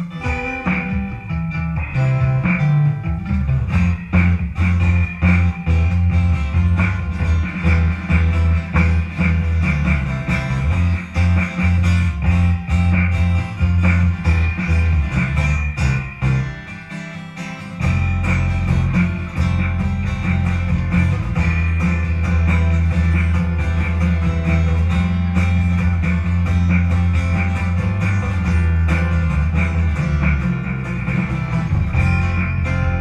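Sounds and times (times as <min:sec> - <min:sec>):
electric bass guitar: 0:00.0 - 0:33.0
live band playing: 0:00.0 - 0:33.0
strummed acoustic guitar: 0:00.0 - 0:33.0.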